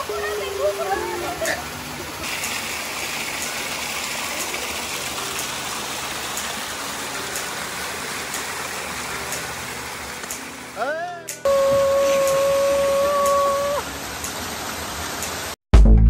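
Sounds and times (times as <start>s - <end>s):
waterfall and stream rushing: 0.0s - 15.6s.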